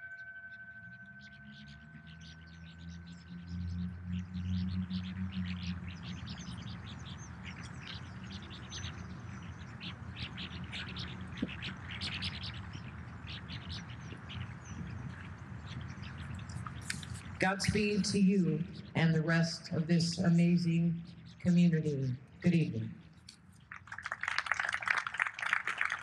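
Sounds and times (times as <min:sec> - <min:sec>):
small birds chirping: 0:00.0 - 0:24.7.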